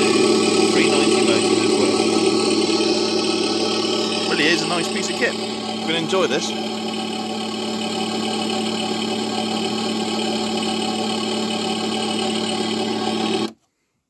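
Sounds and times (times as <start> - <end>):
simulated engine idle hum: 0.0 - 13.5.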